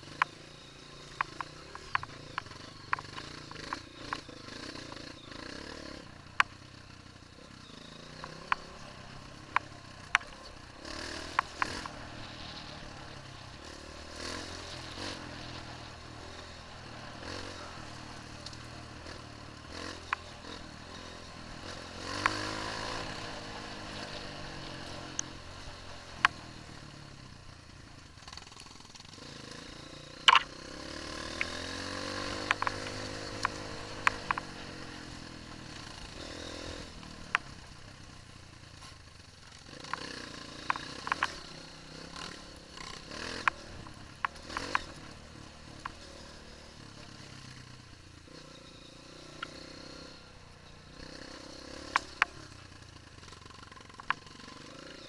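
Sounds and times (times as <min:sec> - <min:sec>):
bike knocking and rattling over ruts: 0:00.0 - 0:55.0
dirt bike engine revving: 0:00.0 - 0:55.0.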